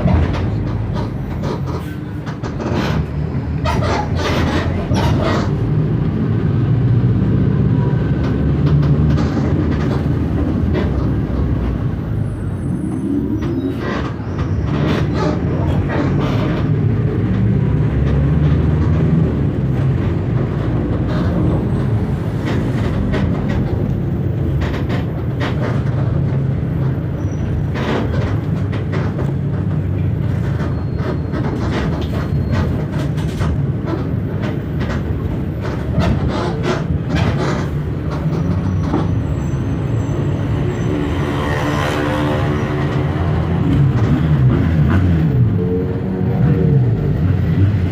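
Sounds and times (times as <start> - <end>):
bus body clicks and rattles: 0.0 - 45.6
diesel bus engine drone: 0.0 - 47.9.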